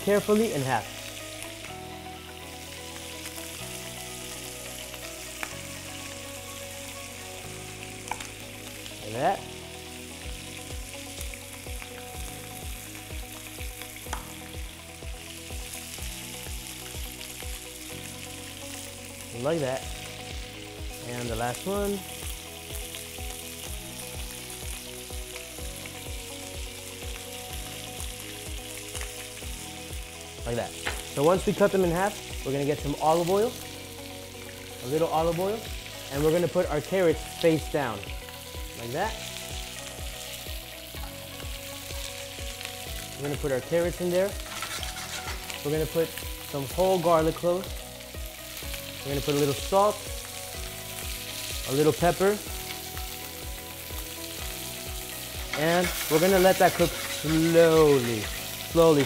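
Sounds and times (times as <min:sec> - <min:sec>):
background music with beat: 0:00.0 - 0:59.0
meat sizzling in a hot pan: 0:00.0 - 0:59.0.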